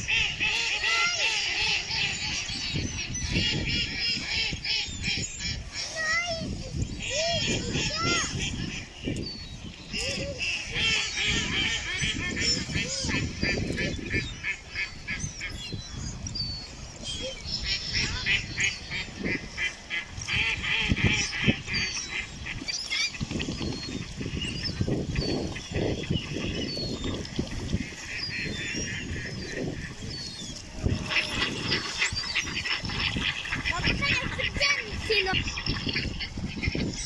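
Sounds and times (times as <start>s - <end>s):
ducks quacking: 0.0s - 37.0s.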